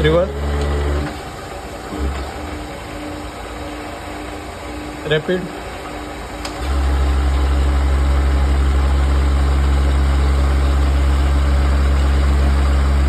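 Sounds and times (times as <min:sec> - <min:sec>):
milling machine low hum: 0:00.0 - 0:13.0.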